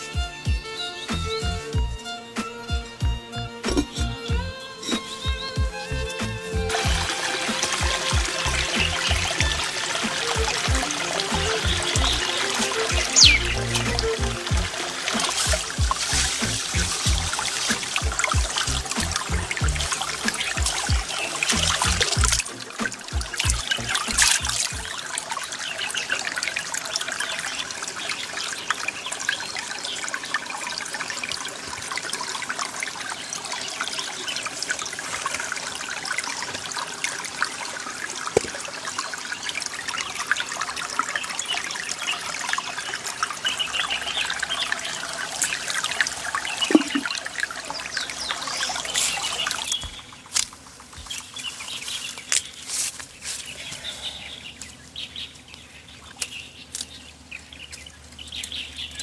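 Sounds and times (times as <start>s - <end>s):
water trickling in a rocky stream: 3.0s - 59.0s.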